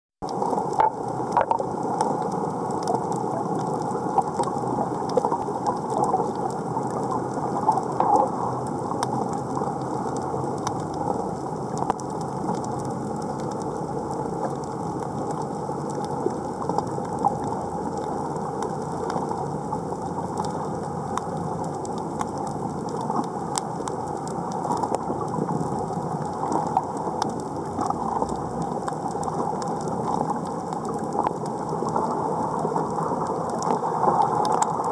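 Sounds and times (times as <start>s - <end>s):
underwater reef crackling: 0.2s - 34.9s.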